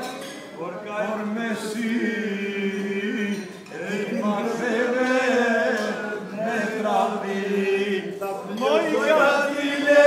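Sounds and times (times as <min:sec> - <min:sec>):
men chanting: 0:00.6 - 0:10.0.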